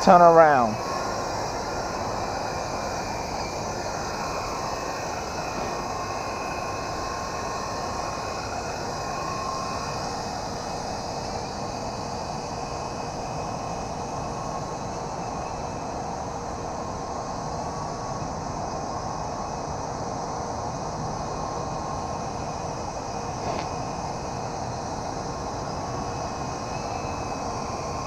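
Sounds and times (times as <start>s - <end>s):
toy helicopter motor whirring: 0.0s - 19.8s, 21.1s - 28.0s.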